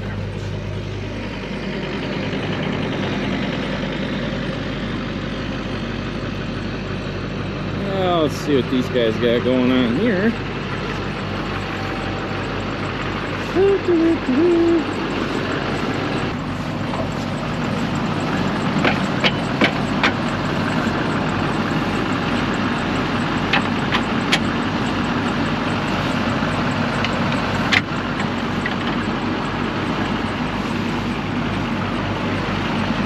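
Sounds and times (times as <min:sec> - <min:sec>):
loader engine running: 0:00.0 - 0:33.0.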